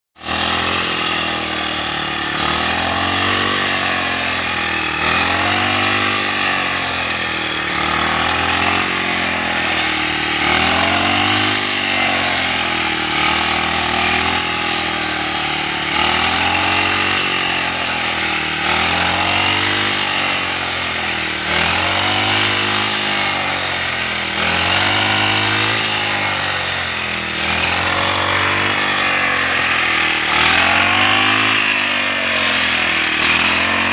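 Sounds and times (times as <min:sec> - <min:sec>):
crop reaper engine running: 0:00.2 - 0:33.9.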